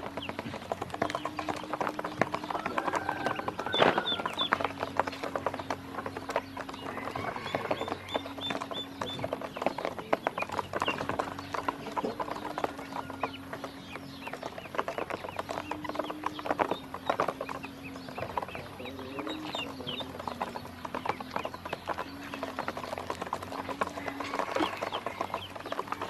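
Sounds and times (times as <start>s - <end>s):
ducklings pecking feed: 0.0s - 26.0s
ducklings peeping: 0.0s - 26.0s.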